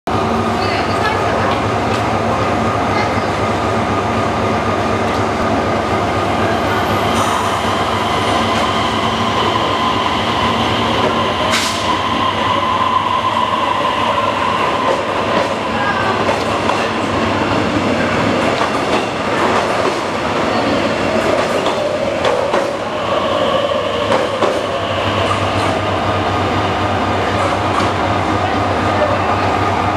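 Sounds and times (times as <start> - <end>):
diesel train engines running: 0.1 - 29.9.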